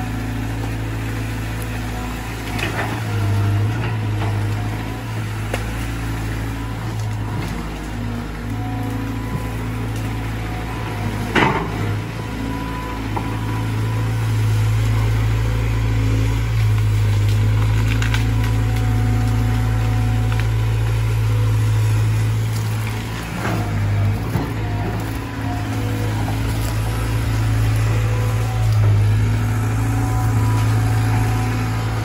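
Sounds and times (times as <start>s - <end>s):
excavator diesel engine: 0.0s - 32.0s.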